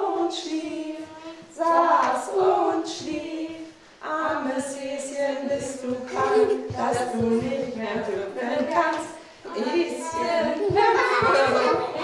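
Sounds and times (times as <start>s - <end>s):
children singing: 0.0s - 12.0s
woman singing: 0.0s - 12.0s.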